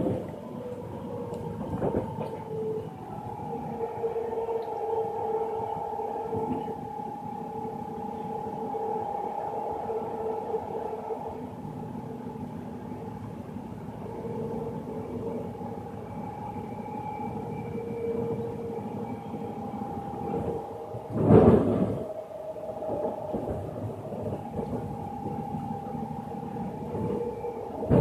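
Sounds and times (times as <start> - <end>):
rumble of wheels on rail: 0.0 - 28.0
steady whining tone: 0.0 - 28.0.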